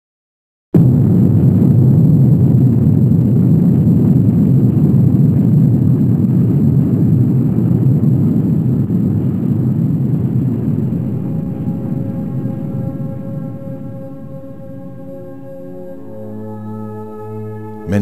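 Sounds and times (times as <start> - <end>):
deep explosion rumble: 0.8 - 18.0.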